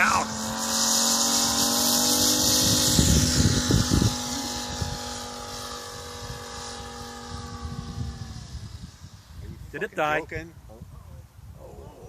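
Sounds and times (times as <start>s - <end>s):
model aircraft engine: 0.0s - 10.7s
wind on microphone: 0.0s - 12.0s.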